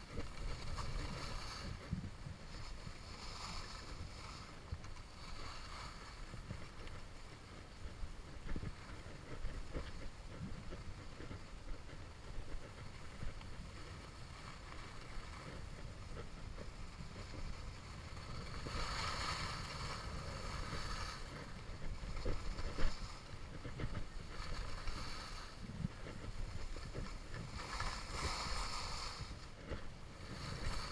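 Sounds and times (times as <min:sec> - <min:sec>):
skis hissing and scraping on snow: 0:00.0 - 0:30.9
wind rumble on microphone: 0:00.0 - 0:30.9.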